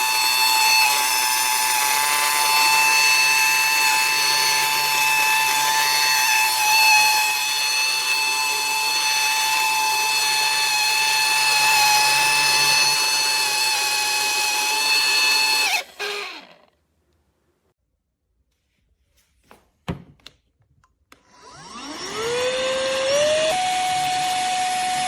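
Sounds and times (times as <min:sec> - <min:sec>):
handheld vacuum motor whining: 0:00.0 - 0:16.8, 0:21.2 - 0:25.0.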